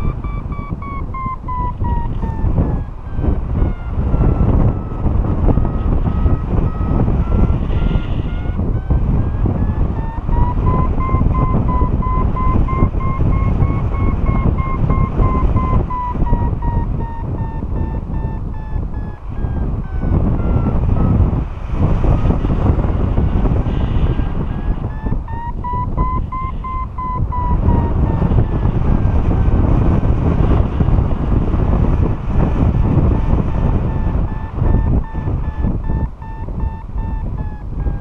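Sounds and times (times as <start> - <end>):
variometer beeping rapidly: 0.0 - 38.0
wind buffeting microphone: 0.0 - 38.0.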